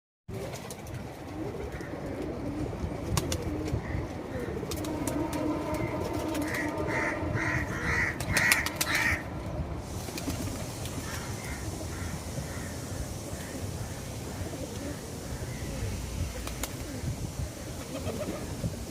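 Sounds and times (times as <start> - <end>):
pigeons cooing: 0.3 - 18.9.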